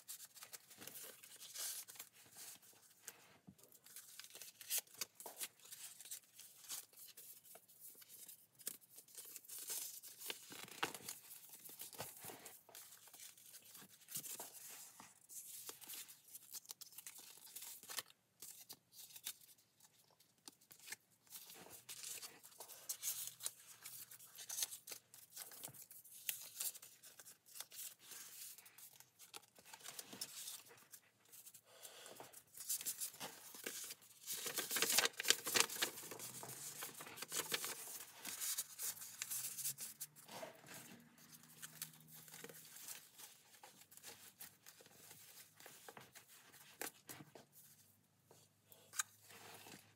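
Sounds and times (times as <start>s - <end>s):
paper rustling and crinkling: 0.0s - 49.9s.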